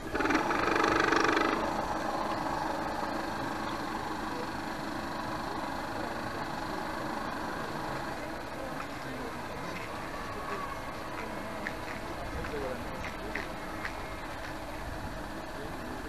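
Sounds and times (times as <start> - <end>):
model boat motor humming: 0.0 - 16.0.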